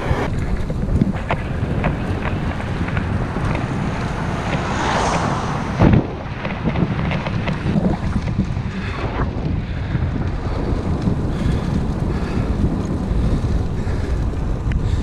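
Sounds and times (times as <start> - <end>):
tyres rumbling on tarmac: 0.0 - 15.0
wind buffeting microphone: 0.0 - 15.0.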